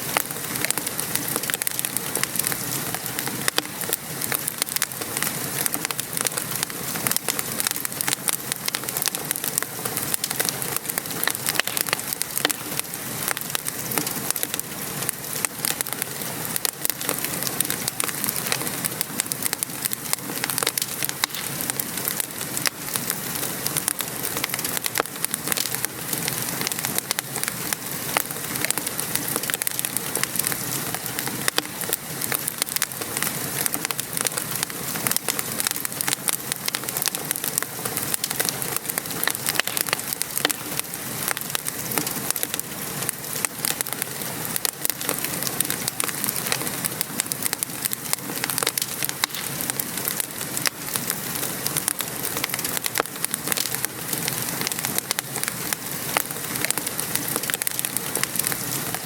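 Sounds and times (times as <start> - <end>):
rain falling: 0.0 - 59.0
wood fire crackling and popping: 0.0 - 59.0.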